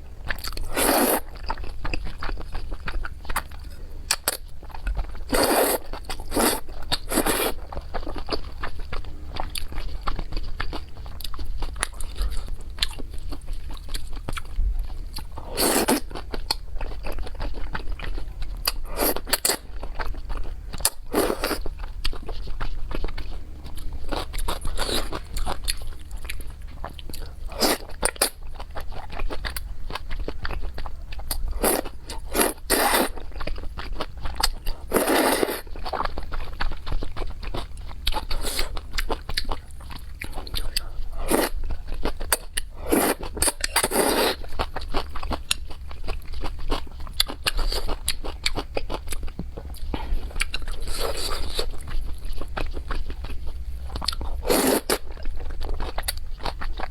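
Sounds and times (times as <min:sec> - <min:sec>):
chewing: 0:00.2 - 0:56.9.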